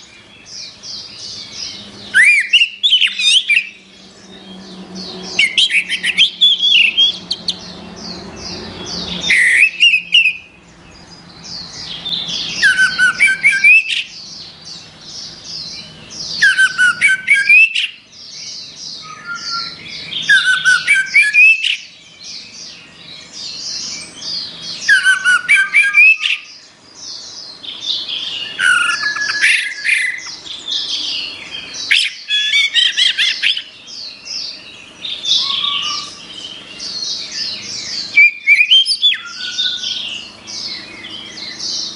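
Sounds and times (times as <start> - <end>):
quiet bird twittering: 0.0 - 41.9.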